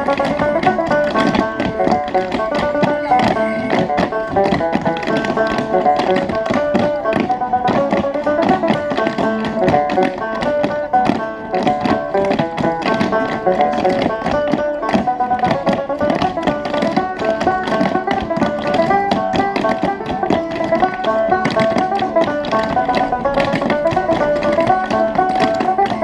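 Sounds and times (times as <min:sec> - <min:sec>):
clog shoes tapping on board: 0:00.0 - 0:26.0
plucked string instrument tune: 0:00.0 - 0:26.0.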